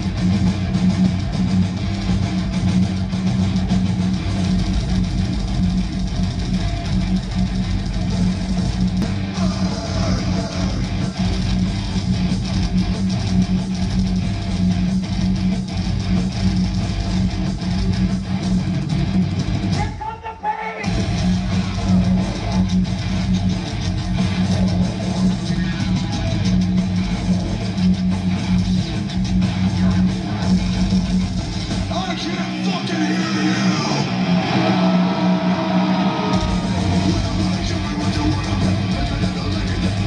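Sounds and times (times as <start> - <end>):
heavy metal band playing live: 0.0 - 40.0.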